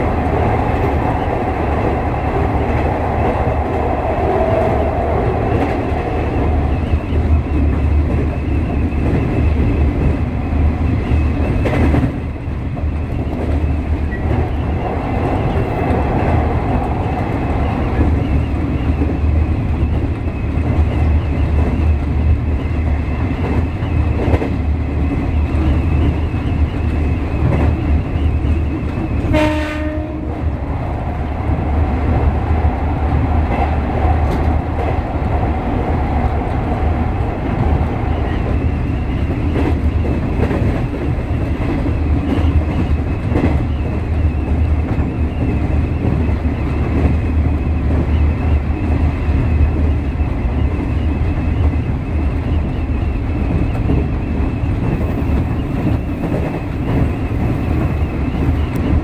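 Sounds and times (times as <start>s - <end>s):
wind rushing past window: 0.0s - 29.3s, 30.2s - 59.0s
train wheels rumbling on rail: 0.0s - 59.0s.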